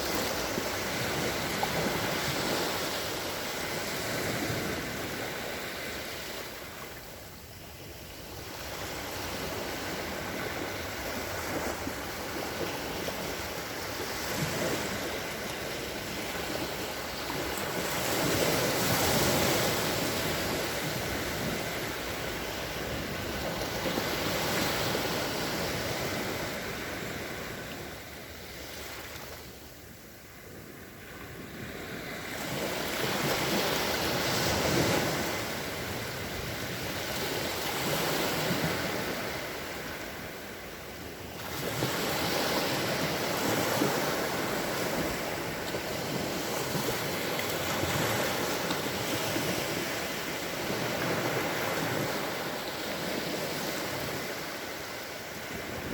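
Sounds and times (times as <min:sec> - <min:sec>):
sea waves washing ashore: 0:00.0 - 0:55.9
wind noise on microphone: 0:00.0 - 0:55.9.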